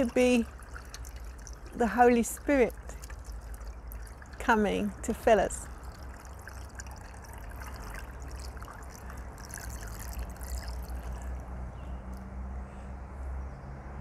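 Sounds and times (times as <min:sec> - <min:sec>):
water pouring into vase: 0:00.0 - 0:11.6.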